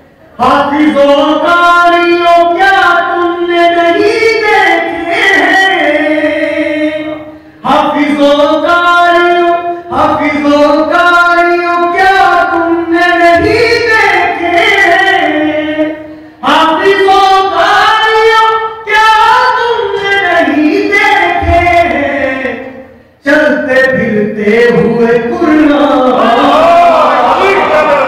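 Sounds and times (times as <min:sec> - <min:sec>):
man singing into microphone: 0:00.4 - 0:28.0.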